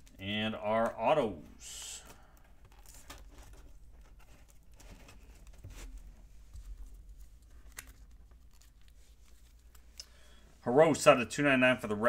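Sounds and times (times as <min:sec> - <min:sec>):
cards rustling: 0:00.0 - 0:10.4.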